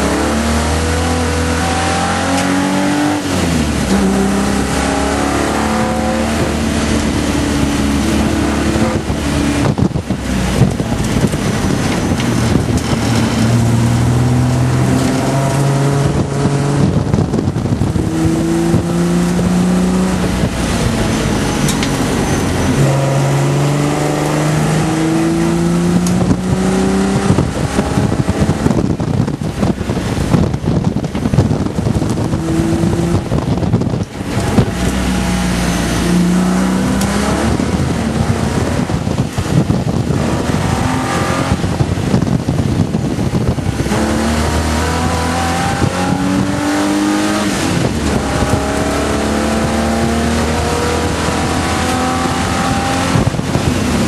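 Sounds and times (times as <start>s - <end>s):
car engine accelerating: 0.0s - 54.0s
wind noise: 0.0s - 54.0s.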